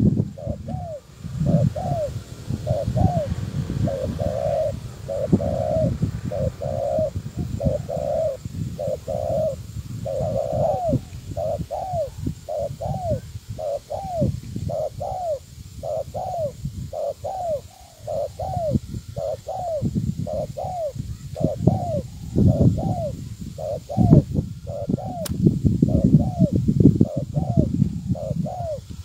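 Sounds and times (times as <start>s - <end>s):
dove cooing: 0.0s - 25.3s, 25.9s - 29.0s.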